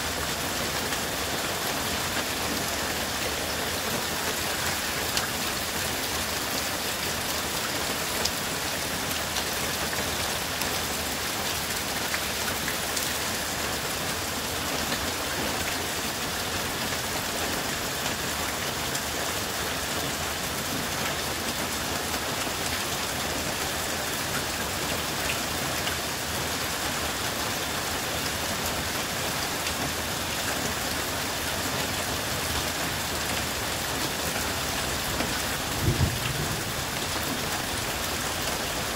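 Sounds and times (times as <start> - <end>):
heavy rain on floodwater: 0.0 - 38.9.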